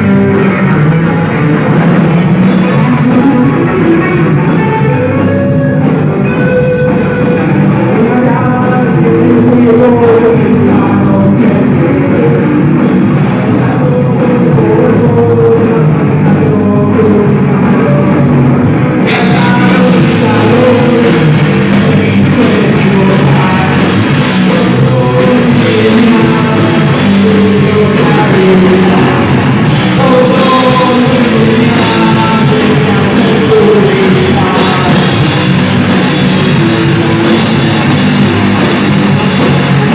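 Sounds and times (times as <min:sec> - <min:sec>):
person singing: 0:00.0 - 0:39.9
rock band playing: 0:00.0 - 0:39.9.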